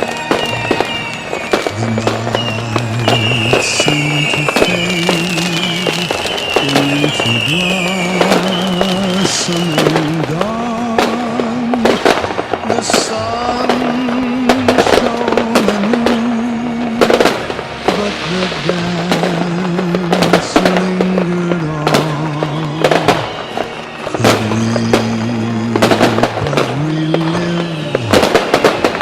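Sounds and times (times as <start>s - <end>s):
melodic music: 0.0s - 8.4s, 9.3s - 29.0s
fireworks banging and crackling: 0.0s - 29.0s.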